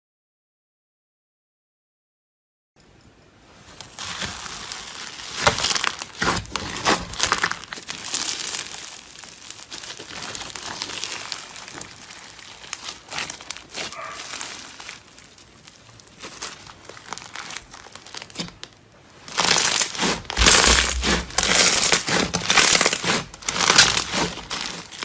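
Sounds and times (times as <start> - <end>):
crunchy slime crackling: 3.5 - 25.0.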